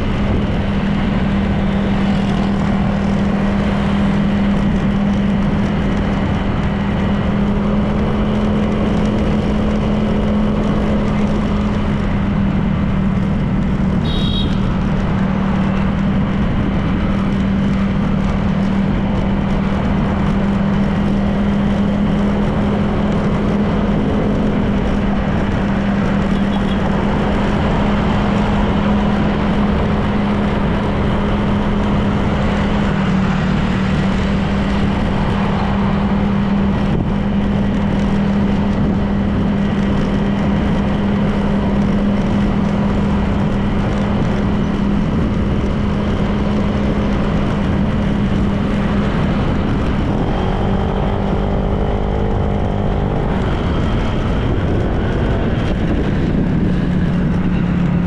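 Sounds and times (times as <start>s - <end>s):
scooter engine humming: 0.0s - 58.0s
wind and road noise: 0.0s - 58.0s.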